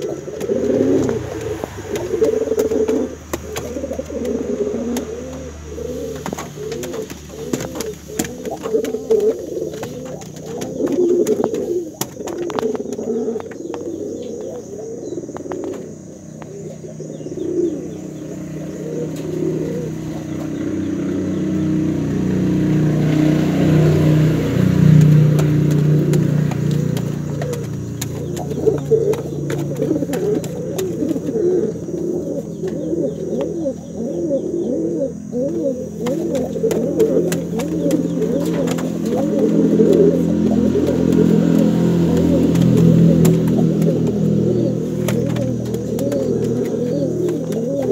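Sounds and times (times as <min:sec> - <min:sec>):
pigeon cooing: 0:00.0 - 0:47.9.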